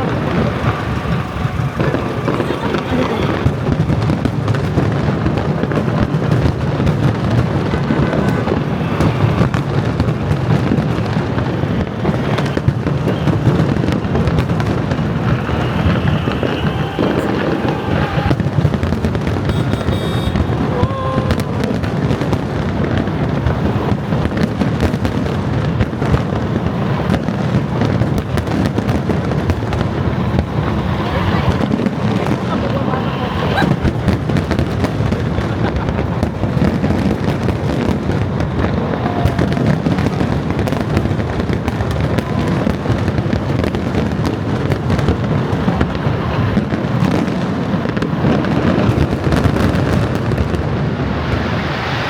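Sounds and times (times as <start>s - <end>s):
fireworks crackling bangs: 0.0s - 52.0s
whistling fireworks: 0.0s - 52.0s.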